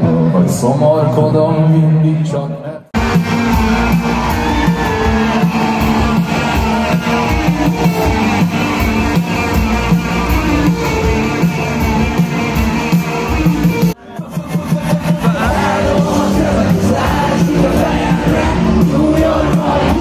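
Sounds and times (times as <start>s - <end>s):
rock band playing: 3.0s - 20.0s.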